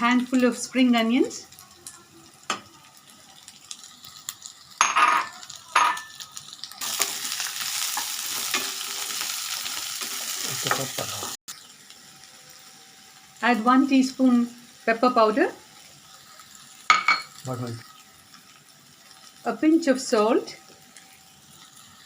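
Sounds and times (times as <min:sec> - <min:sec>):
sausage sizzling in oil: 0:00.0 - 0:22.0.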